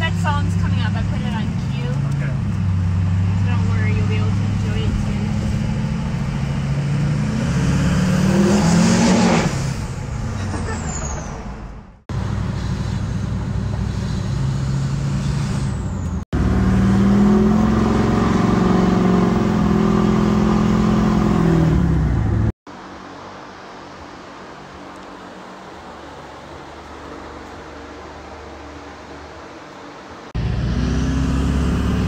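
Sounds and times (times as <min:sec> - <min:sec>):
diesel truck engine accelerating: 0:00.0 - 0:22.6, 0:24.6 - 0:32.0.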